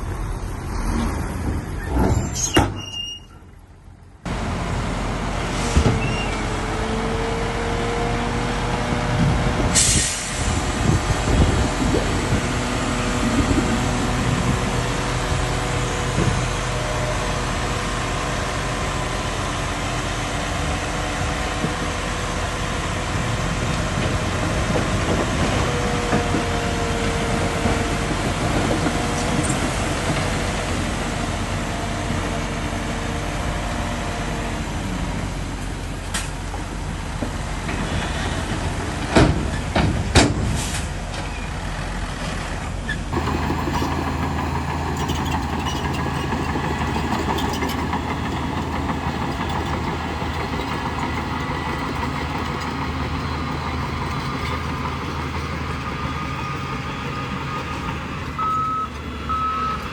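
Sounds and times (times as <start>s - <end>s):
diesel bulldozer engine: 0.0s - 59.9s.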